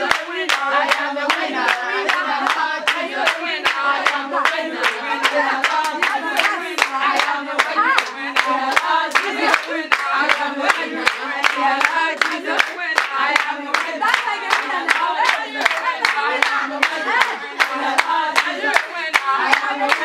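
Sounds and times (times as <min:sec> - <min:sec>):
group of voices singing: 0:00.0 - 0:20.0
hand clapping to the beat: 0:00.0 - 0:20.0.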